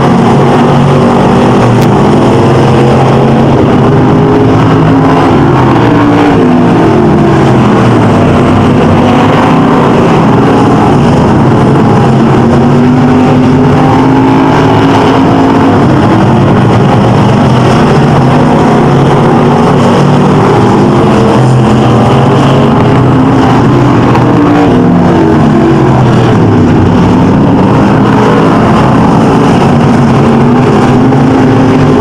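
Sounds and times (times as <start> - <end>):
stock car engines running: 0.0 - 32.0.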